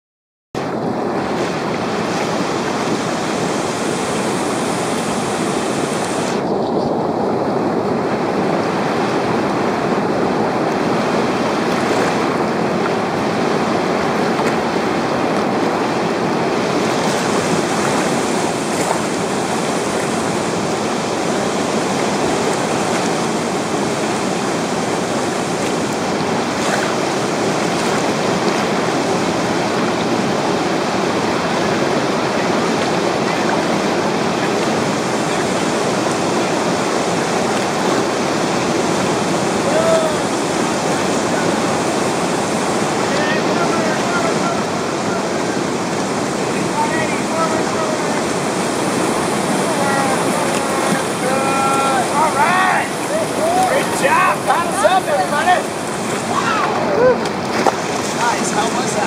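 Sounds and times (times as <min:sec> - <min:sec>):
whitewater rapids roaring: 0:00.6 - 0:59.0.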